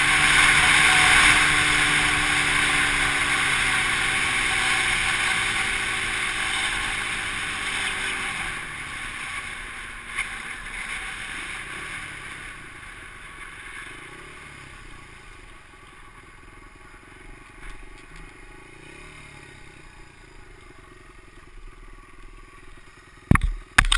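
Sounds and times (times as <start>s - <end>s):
dirt bike engine: 0.0s - 23.9s.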